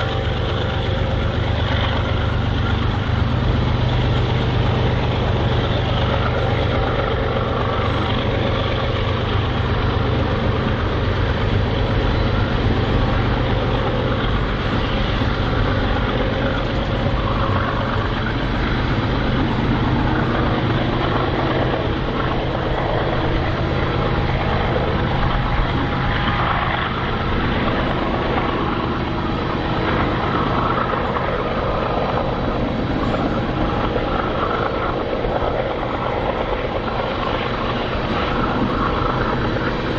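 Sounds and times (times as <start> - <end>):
locomotive engine droning: 0.0 - 39.9.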